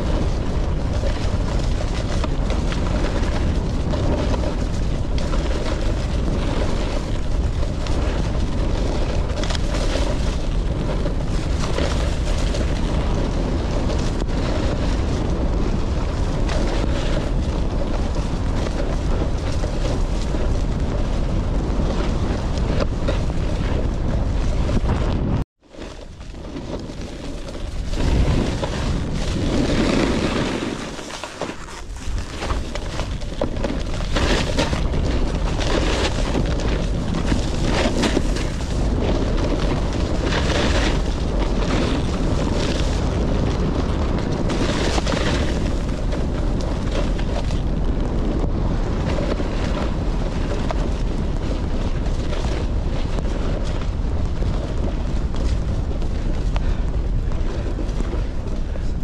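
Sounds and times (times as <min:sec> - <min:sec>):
snowboard scraping over snow: 0:00.0 - 0:59.0
wind buffeting microphone: 0:00.0 - 0:59.0.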